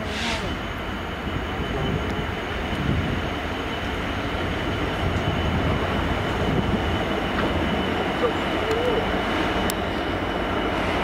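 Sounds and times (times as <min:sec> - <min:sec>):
diesel locomotive rumble: 0:00.0 - 0:11.0
wheels on rails: 0:00.0 - 0:11.0.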